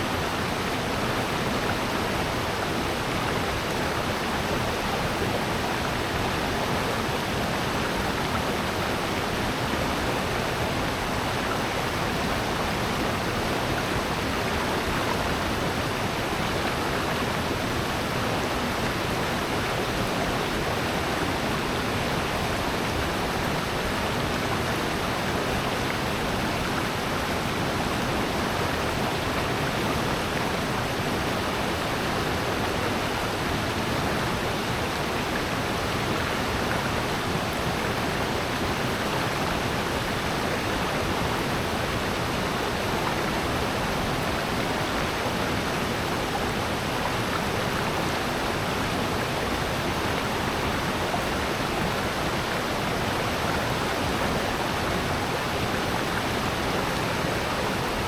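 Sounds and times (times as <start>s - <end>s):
stream and waterfall rushing: 0.0s - 58.0s.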